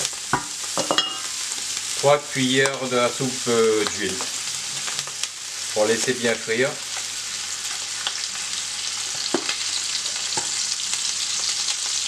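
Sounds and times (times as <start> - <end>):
meat sizzling in oil: 0.0 - 12.0
sharp crackles of frying oil: 0.0 - 12.0.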